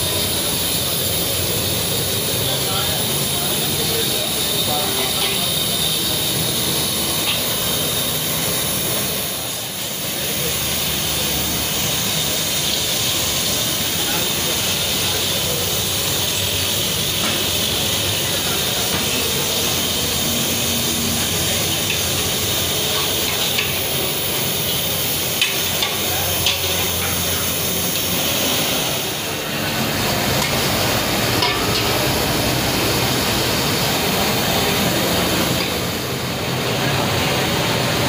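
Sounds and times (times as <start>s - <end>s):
pots hissing on open fires: 0.0s - 38.0s.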